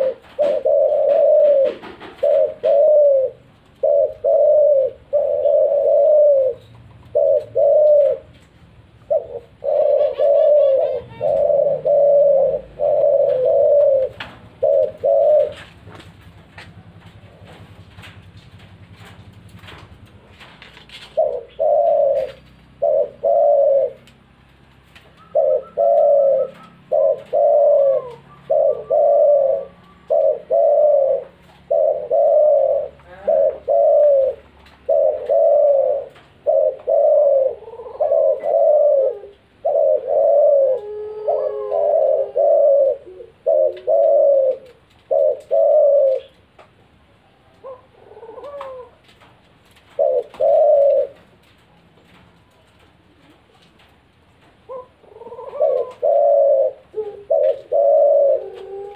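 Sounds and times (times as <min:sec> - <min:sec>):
doves cooing: 0:00.0 - 0:58.9.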